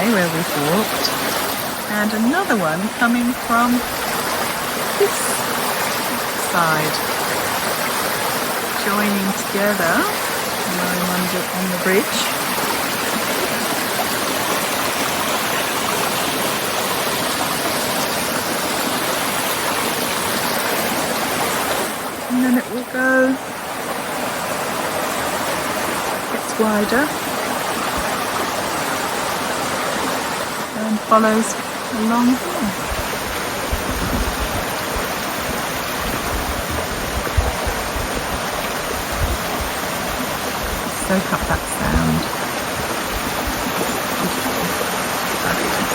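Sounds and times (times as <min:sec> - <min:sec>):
brook babbling: 0:00.0 - 0:45.9.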